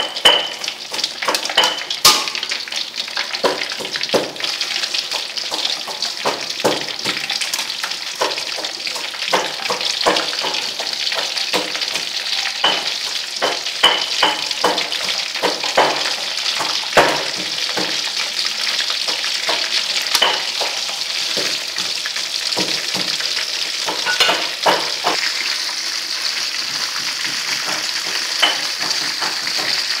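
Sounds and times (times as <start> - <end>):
deep-frying oil sizzling and popping: 0.0 - 30.0.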